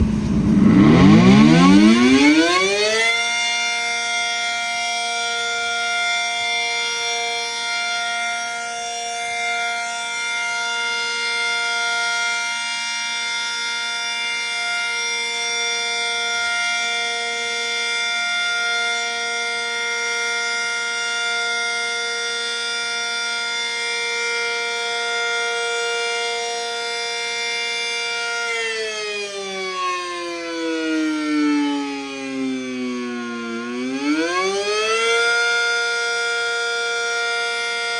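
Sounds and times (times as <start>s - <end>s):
warning siren wailing: 0.0s - 37.9s.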